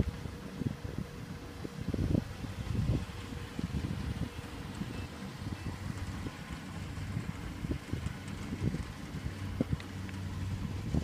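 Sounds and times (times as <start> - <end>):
distant harvester engine drone: 0.0 - 11.0
wind buffeting microphone: 0.0 - 11.0.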